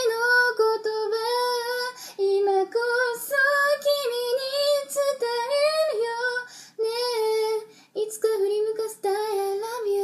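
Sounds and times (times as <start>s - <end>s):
woman singing pop melody: 0.0s - 10.0s.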